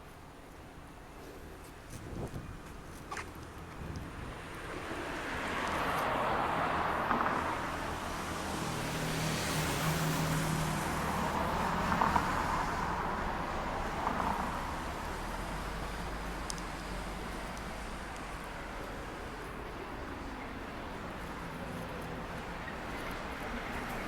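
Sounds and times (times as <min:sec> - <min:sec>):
road traffic passing: 0:00.2 - 0:24.0.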